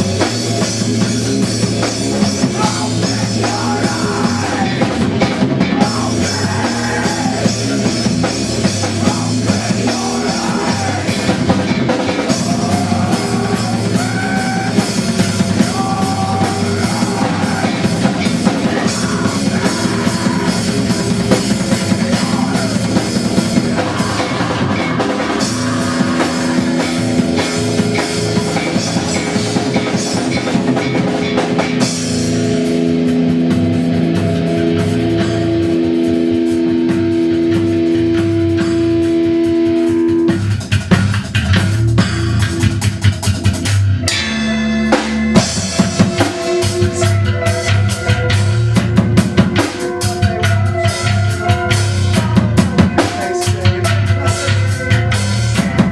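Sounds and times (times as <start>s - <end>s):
long held bass notes: 0.0s - 55.9s
rock band playing: 0.0s - 55.9s.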